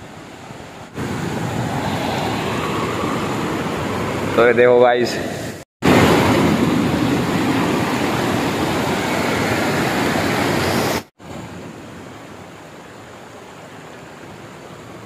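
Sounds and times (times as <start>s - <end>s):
river water rushing: 0.0s - 4.6s, 5.2s - 15.0s.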